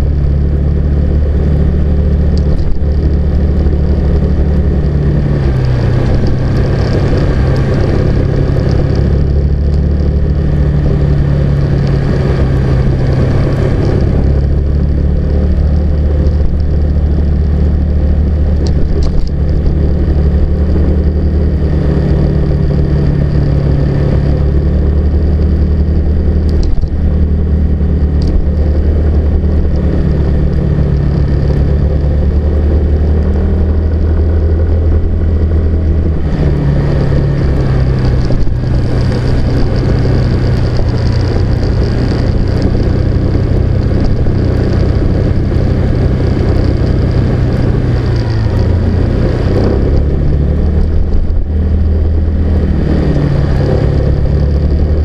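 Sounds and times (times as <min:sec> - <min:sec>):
car engine hum and road rumble: 0:00.0 - 0:55.0.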